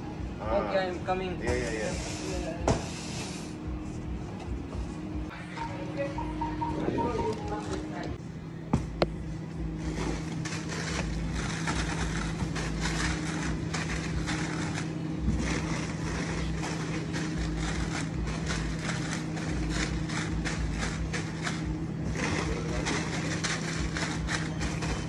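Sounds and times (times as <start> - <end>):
steady low hum: 2.4 - 25.0.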